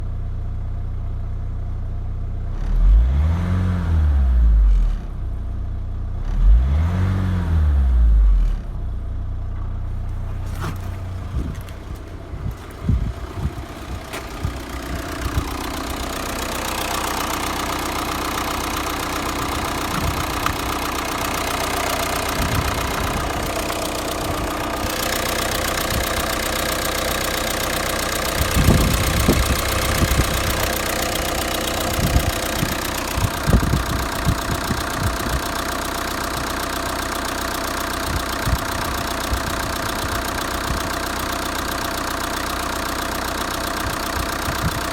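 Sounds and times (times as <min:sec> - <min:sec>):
diesel engine revving and idling: 0:00.0 - 0:44.9.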